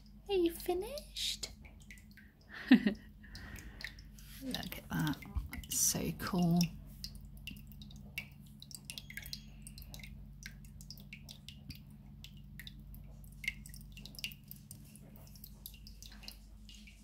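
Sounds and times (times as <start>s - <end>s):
faint low hum: 0.0s - 17.0s
water trickling and dripping: 0.0s - 17.0s.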